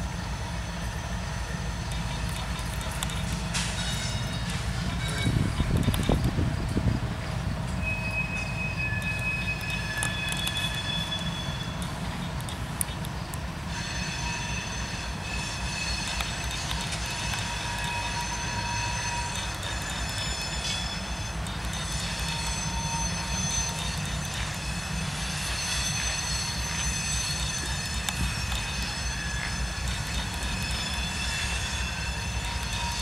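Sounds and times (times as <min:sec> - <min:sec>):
freight train rumbling: 0:00.0 - 0:33.0
wheels squealing on rails: 0:00.0 - 0:33.0.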